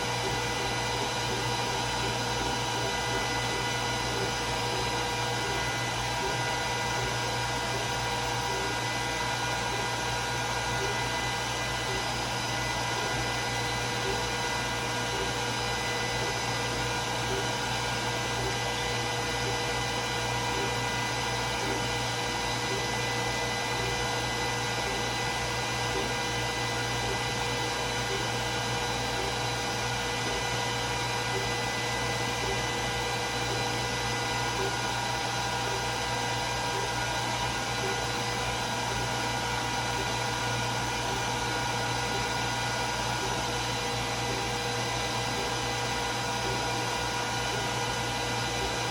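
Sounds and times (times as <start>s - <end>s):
laser cutter fan whir: 0.0s - 48.9s.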